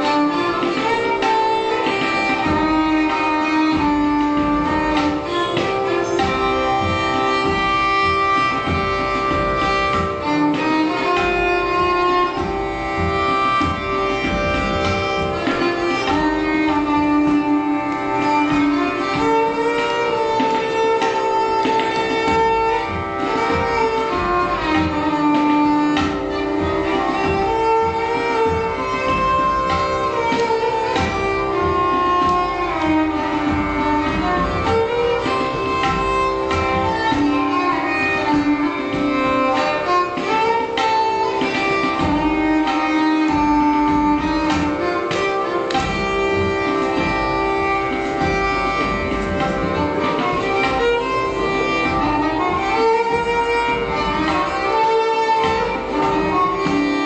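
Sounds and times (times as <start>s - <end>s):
tabla drum strokes: 0.0s - 57.0s
violin playing sliding notes: 0.0s - 57.0s.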